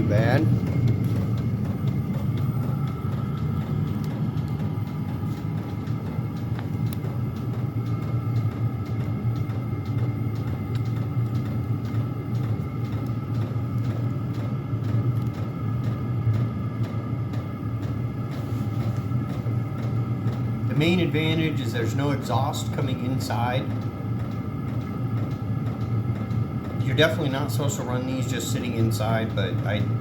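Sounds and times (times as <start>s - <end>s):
air heaters rumbling: 0.0s - 30.0s
steady whining tones: 0.0s - 30.0s.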